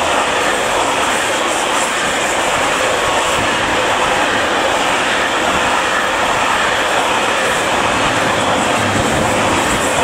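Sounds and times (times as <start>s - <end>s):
train wheels rolling on rails: 0.0s - 10.0s.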